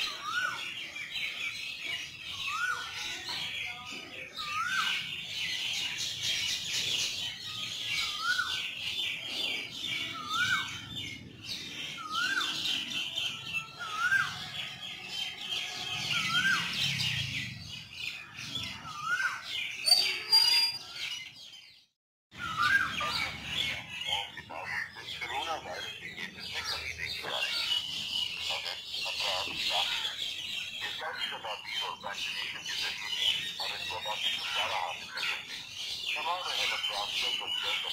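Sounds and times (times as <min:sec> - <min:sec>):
birds chirping and chattering: 0:00.0 - 0:37.9.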